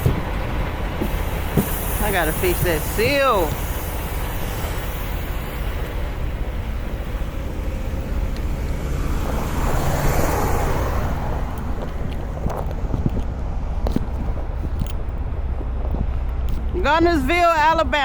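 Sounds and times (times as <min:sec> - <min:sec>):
rushing noise: 0:00.0 - 0:16.5
diesel truck engine running: 0:00.0 - 0:18.0.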